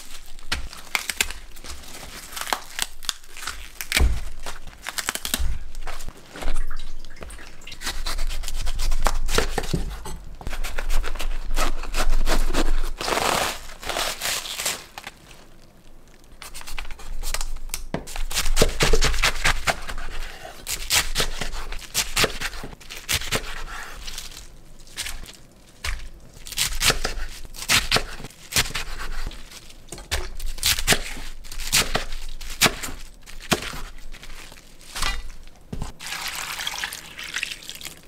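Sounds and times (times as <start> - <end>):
cabbage leaves crunching and snapping: 0.0 - 6.7, 10.5 - 36.7.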